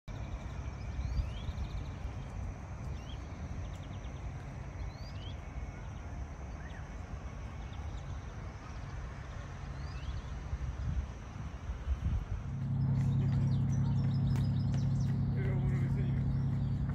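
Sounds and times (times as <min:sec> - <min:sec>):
birds chirping: 0:00.1 - 0:16.9
steady low rumble: 0:00.1 - 0:16.9.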